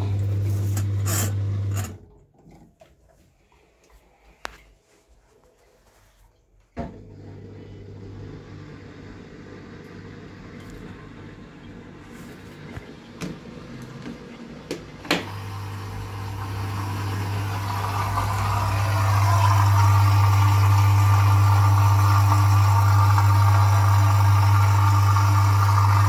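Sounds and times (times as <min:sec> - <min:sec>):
dishwasher pump humming: 0:00.0 - 0:02.8, 0:06.8 - 0:26.0.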